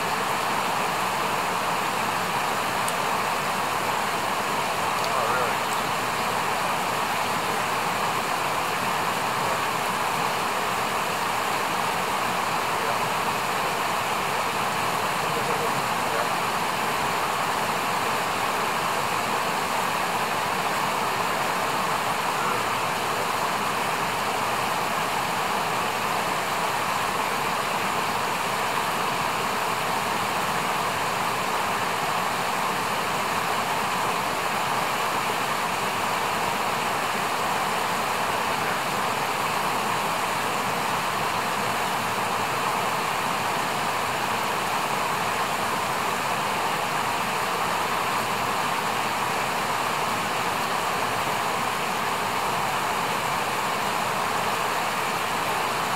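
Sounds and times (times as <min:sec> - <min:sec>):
fast-flowing river rushing: 0:00.0 - 0:55.9.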